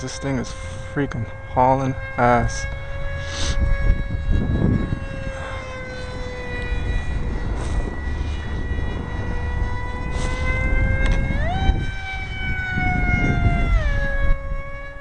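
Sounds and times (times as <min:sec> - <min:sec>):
electric motor whining: 0:00.0 - 0:15.0
wind rumble on microphone: 0:00.0 - 0:15.0.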